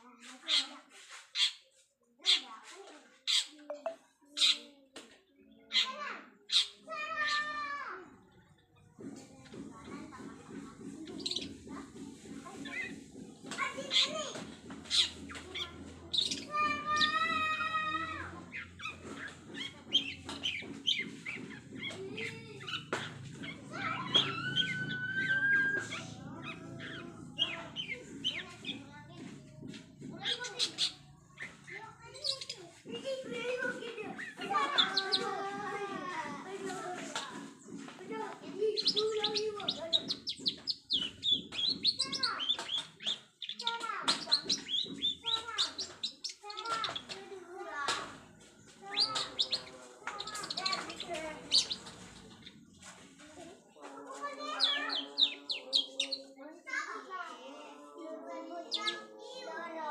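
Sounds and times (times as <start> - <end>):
songbird chirps and calls: 3.2 - 53.0, 54.1 - 56.5, 58.1 - 59.6.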